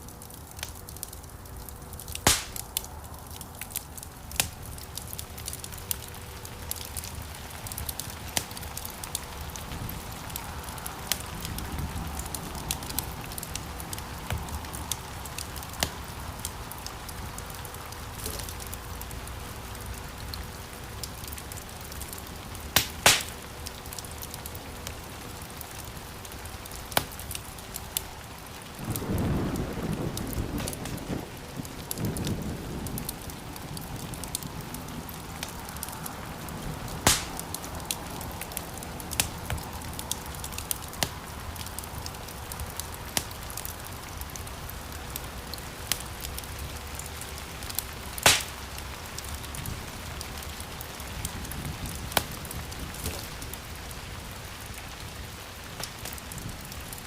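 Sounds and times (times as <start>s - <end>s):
crackles and pops from logs: 0.0s - 31.3s, 35.1s - 53.9s, 54.5s - 57.0s
wood fire burning: 0.0s - 57.0s.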